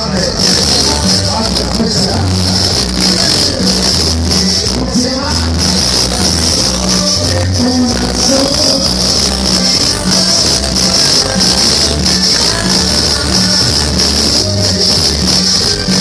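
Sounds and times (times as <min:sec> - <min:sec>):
loud dance music with heavy bass: 0:00.0 - 0:16.0.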